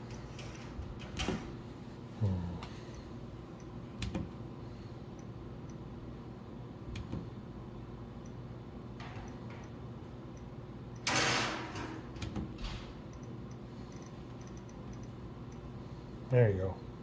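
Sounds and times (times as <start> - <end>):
steady low hum: 0.0 - 11.1, 12.0 - 17.0.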